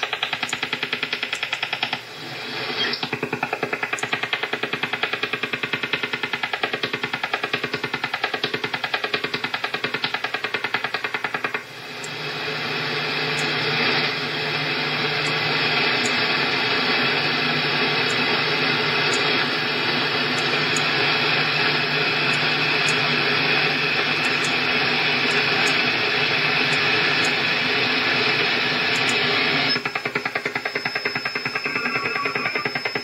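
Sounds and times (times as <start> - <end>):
radio static hiss: 0.0 - 33.0
rapid even radio pulsing: 0.0 - 33.0.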